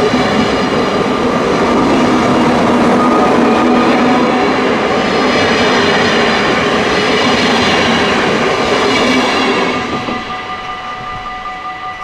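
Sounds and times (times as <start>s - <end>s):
crossing warning bells ringing: 0.0s - 12.0s
train wheels on rails: 0.0s - 12.0s.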